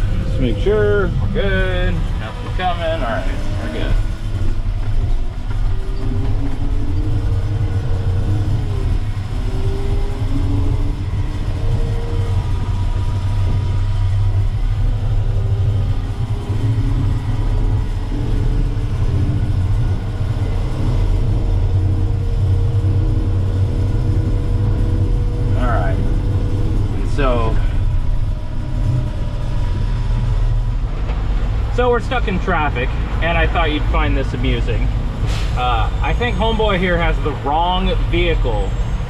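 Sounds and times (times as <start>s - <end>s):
diesel truck engine rumbling: 0.0s - 39.0s.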